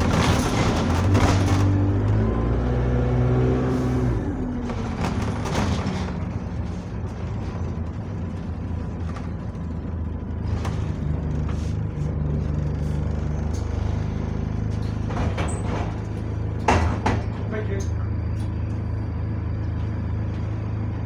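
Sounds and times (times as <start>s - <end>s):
bus engine drone from inside: 0.0s - 21.0s.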